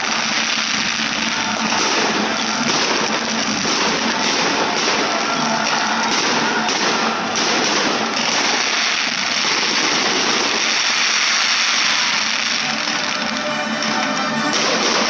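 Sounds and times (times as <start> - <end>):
fireworks crackling pops: 0.0 - 15.0.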